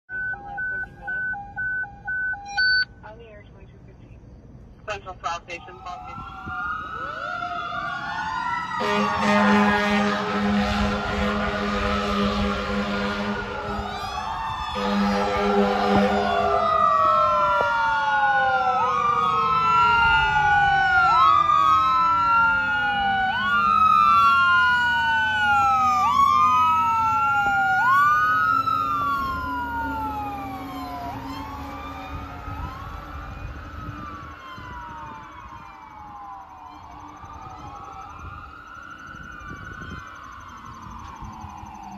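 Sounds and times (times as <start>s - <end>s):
fire engine siren wailing: 0.1s - 2.9s, 5.3s - 41.9s
lower siren tone sliding down: 0.1s - 2.9s, 5.6s - 41.9s.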